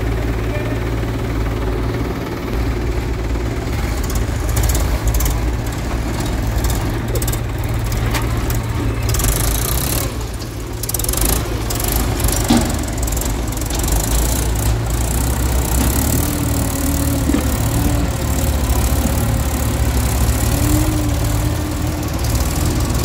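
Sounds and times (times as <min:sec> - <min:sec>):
diesel machinery droning: 0:00.0 - 0:23.0.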